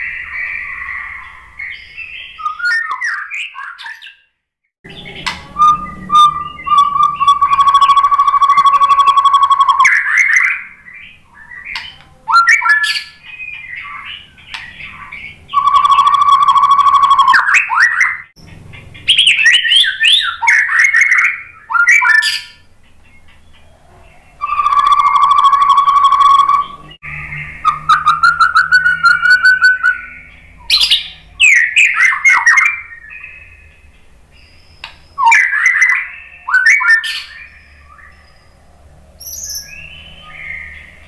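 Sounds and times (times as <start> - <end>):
bird singing whistled phrases: 0.0 - 4.2, 4.9 - 18.3, 19.1 - 22.7, 24.3 - 33.8, 34.4 - 38.5
rapid rattling bird trills: 4.9 - 41.0.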